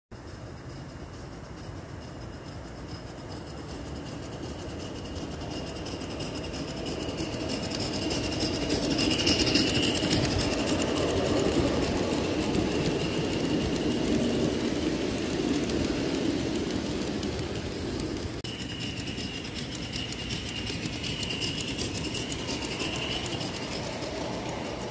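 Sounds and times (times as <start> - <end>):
model train wheels rolling on rails: 0.2 - 24.9.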